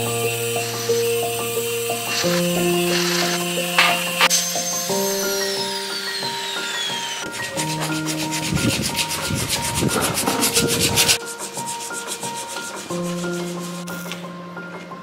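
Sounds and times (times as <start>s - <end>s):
rasping abrasive scrape: 0.0s - 14.1s
background music: 0.0s - 15.0s.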